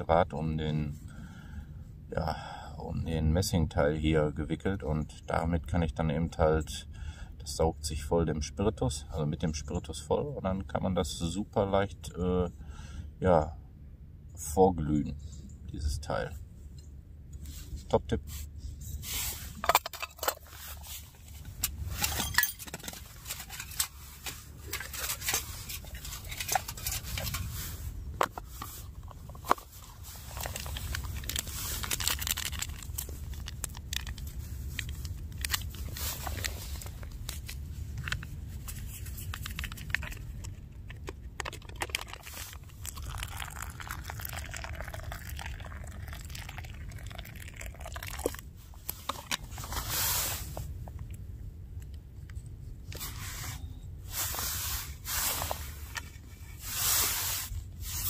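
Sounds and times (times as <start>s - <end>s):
low steady rumble: 0.0s - 58.0s.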